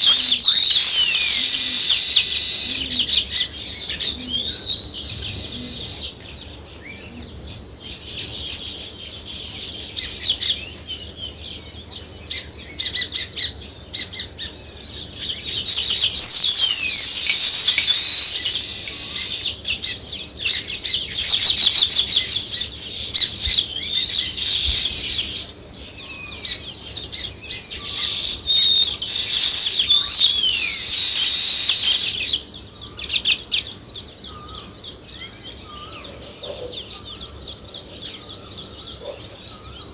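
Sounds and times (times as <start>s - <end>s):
songbirds chirping and chattering: 0.0s - 39.9s.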